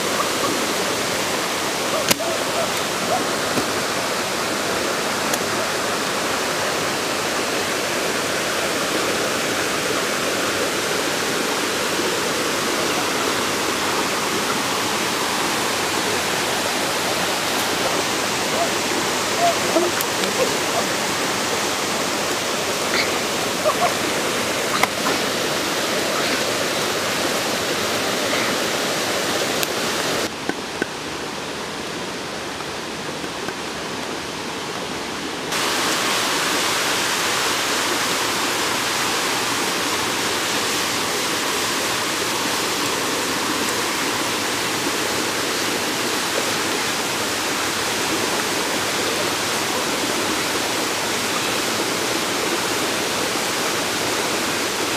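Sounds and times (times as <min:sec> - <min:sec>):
waterfall and stream rushing: 0:00.0 - 0:54.9.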